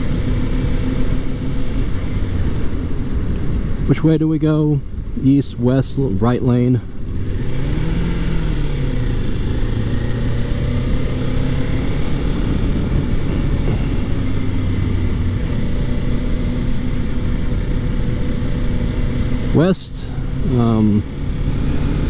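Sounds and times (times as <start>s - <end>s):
motorcycle engine running: 0.0s - 4.1s, 5.8s - 22.0s.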